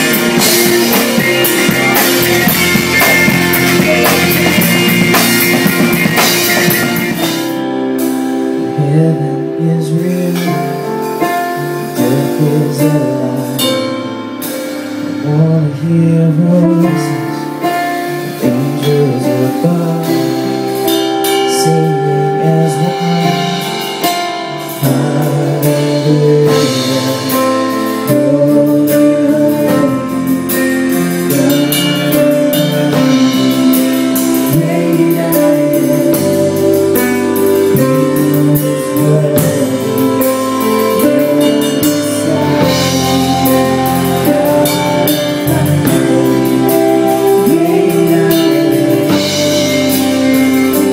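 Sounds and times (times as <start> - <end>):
bass: 0.0 - 50.9
drum kit: 0.0 - 50.9
guitar: 0.0 - 50.9
person singing: 0.0 - 50.9.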